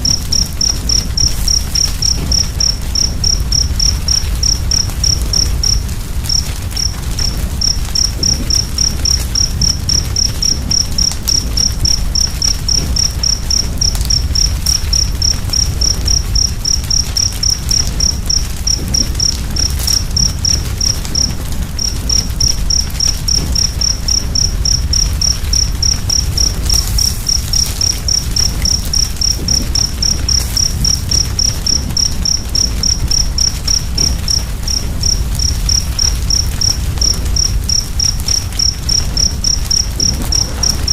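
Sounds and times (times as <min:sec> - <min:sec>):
cricket chirping: 0:00.0 - 0:40.9
fire crackling: 0:00.0 - 0:40.9.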